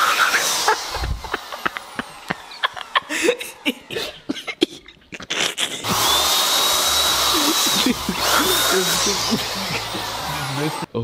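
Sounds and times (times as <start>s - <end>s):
power tool motor whining: 0.0s - 3.9s, 5.8s - 10.9s.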